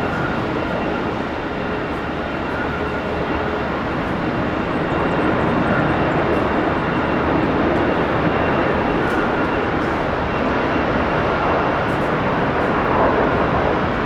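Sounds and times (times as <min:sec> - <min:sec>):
jet engines rushing with whine: 0:00.0 - 0:14.0.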